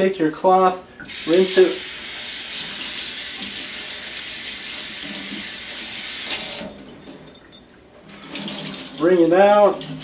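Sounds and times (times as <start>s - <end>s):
faucet water running into sink: 1.0s - 10.0s.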